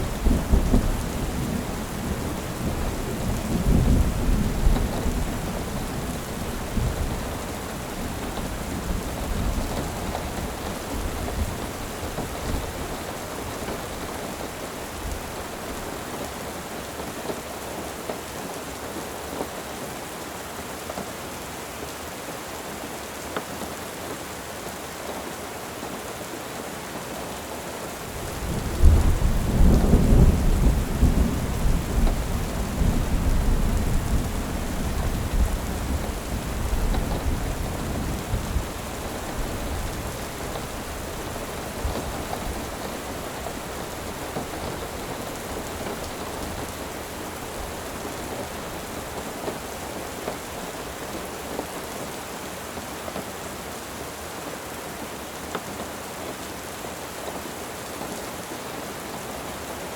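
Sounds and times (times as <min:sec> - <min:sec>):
soft rain: 0:00.0 - 0:59.9.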